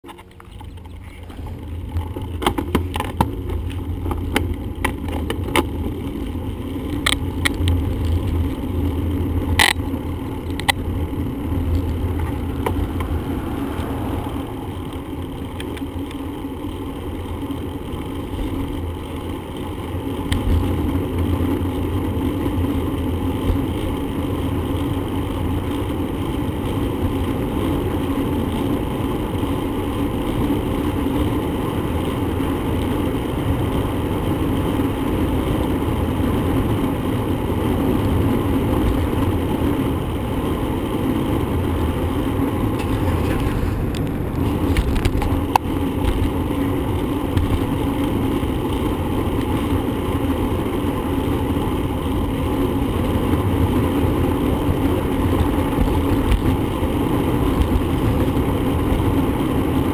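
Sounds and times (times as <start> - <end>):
bicycle road noise: 0.0 - 59.9
wind rumble on microphone: 0.0 - 59.9.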